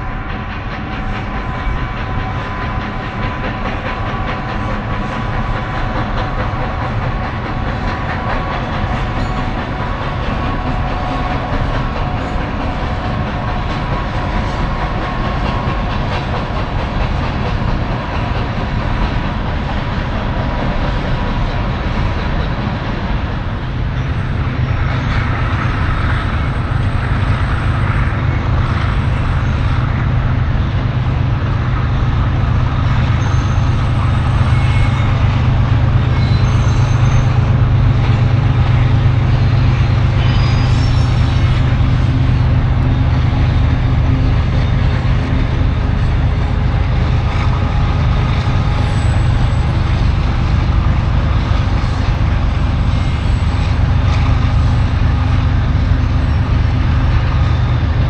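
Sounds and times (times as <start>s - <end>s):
freight train rumbling on bridge: 0.0s - 58.0s.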